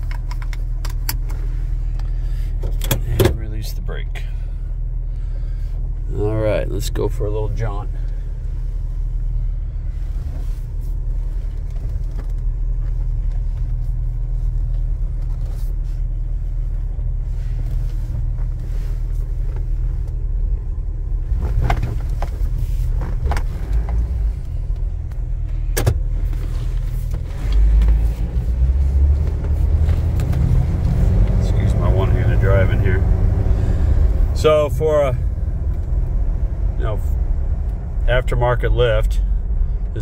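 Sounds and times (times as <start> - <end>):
engine rumble inside car: 0.0 - 40.0.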